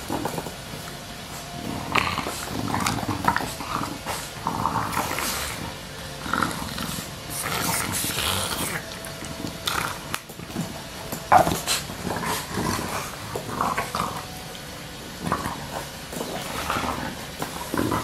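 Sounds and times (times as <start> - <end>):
dogs growling: 0.0 - 18.0.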